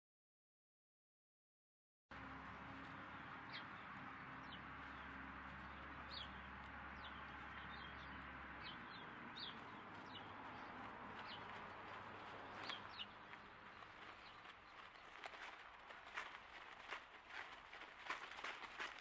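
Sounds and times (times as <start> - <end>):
small birds chirping: 2.7 - 19.0.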